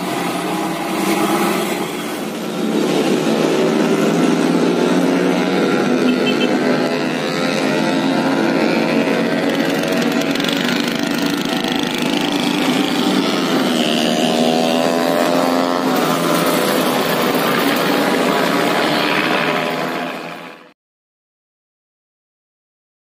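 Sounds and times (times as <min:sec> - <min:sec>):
diesel truck engine under load: 0:00.0 - 0:20.4.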